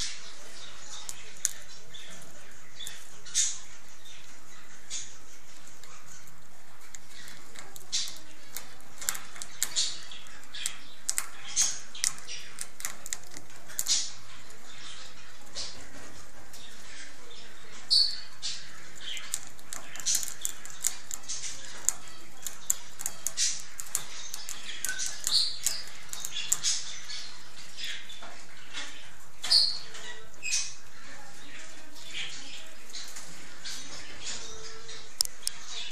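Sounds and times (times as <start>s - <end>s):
squirrel gnawing hard food: 0.0s - 34.4s.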